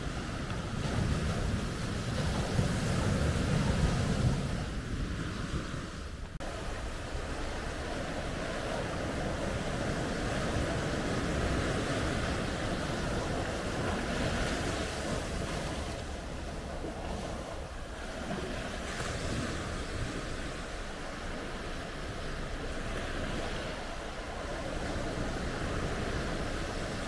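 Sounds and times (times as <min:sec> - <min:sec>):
small waves washing on shore: 0:00.0 - 0:27.0.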